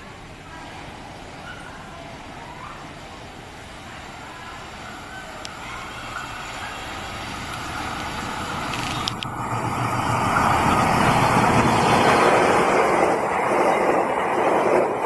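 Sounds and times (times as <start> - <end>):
passenger train passing at speed: 0.0 - 15.0.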